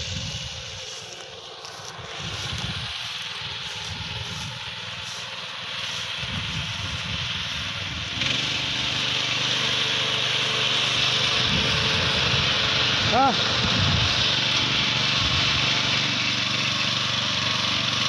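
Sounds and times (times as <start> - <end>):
grass reaper engine running: 0.0 - 18.0
hissing of cutting grass: 0.0 - 18.0.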